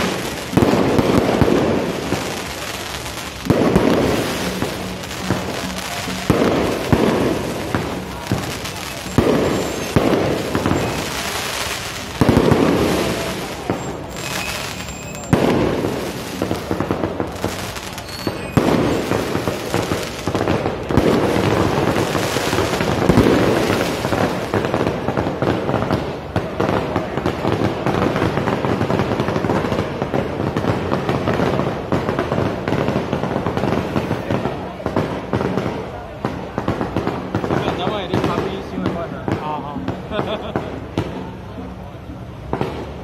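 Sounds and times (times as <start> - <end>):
loud firework bangs: 0.0 - 41.3
fireworks crackling and popping: 0.0 - 43.0.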